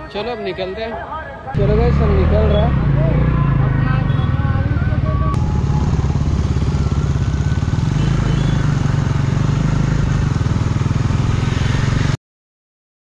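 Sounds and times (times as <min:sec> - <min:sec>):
motorcycle engine running: 0:01.6 - 0:12.2.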